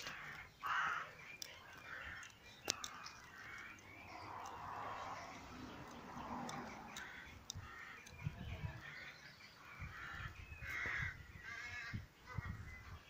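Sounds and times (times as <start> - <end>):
crows cawing: 0.0 - 12.6.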